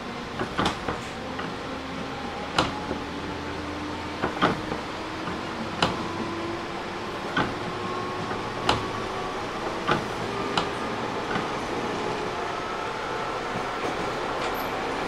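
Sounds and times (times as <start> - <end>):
wheels clicking over rail joints: 0.0 - 12.4
train rumbling in motion: 0.0 - 15.0.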